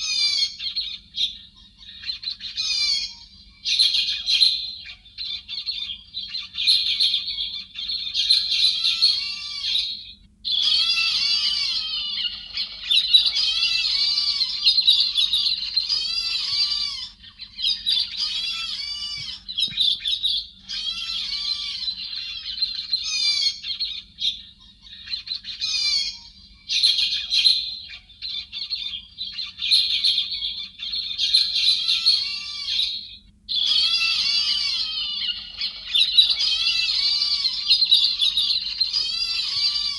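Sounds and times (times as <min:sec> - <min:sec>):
thrushes calling: 0:00.0 - 0:39.9.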